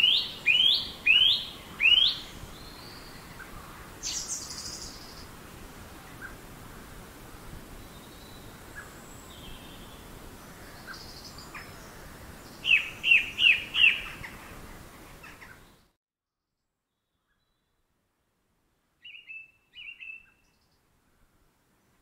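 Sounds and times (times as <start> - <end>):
songbirds chirping: 0.0 - 16.0, 19.0 - 20.9.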